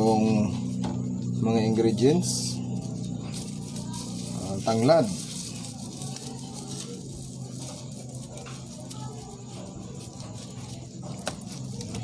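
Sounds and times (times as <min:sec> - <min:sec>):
stalk rustling and crinkling: 0:00.0 - 0:12.0
steady low hum: 0:00.0 - 0:12.0.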